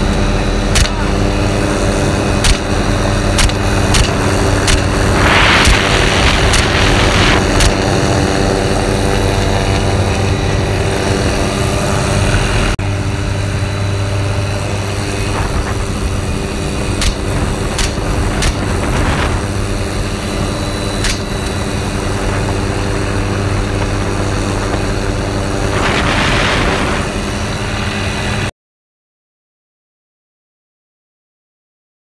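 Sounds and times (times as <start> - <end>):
helicopter engine and rotor drone: 0.0 - 28.5.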